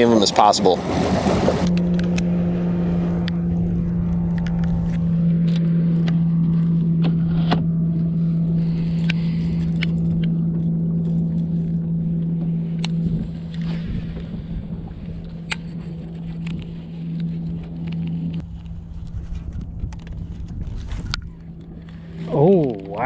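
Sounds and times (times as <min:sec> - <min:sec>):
electric trolling motor humming: 0:00.0 - 0:23.0.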